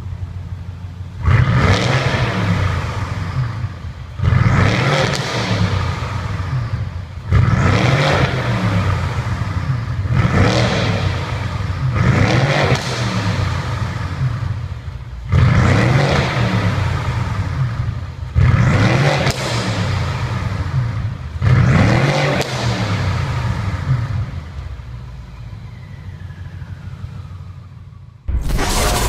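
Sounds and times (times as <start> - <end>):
car engine idling: 0.0 - 12.2, 12.8 - 21.9, 22.8 - 28.3
car engine revving: 0.0 - 25.0.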